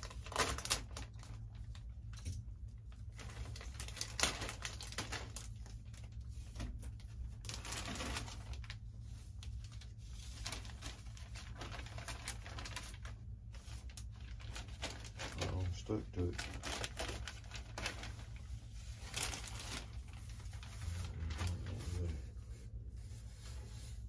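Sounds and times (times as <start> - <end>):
plastic bag crinkling: 0.0 - 24.0
steady low hum: 0.0 - 24.0.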